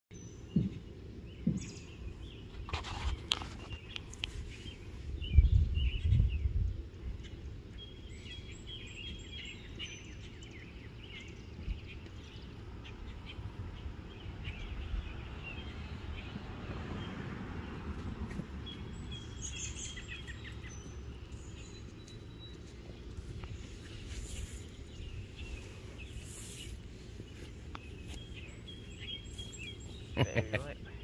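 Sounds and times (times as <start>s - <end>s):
birds chirping and singing: 0.1s - 31.0s.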